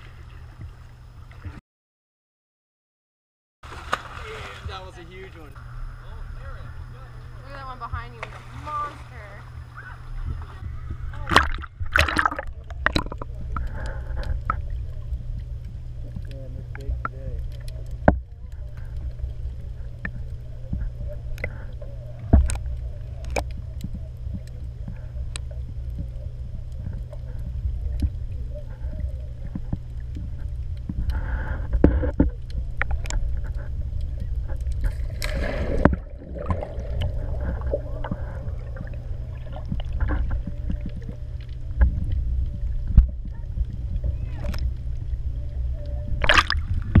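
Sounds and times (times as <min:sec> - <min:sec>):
muffled underwater rumble: 0:00.0 - 0:01.6, 0:03.7 - 0:47.0
water swishes: 0:00.0 - 0:01.6, 0:03.6 - 0:47.0.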